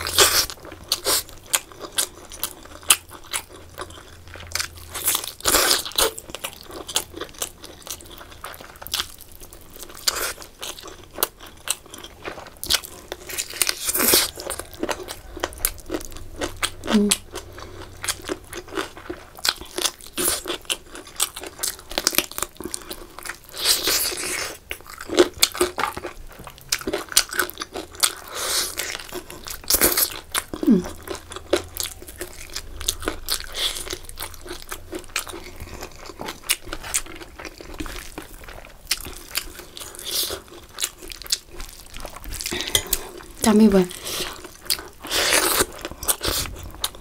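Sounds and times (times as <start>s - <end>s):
crunching and chewing food: 0.0s - 47.0s.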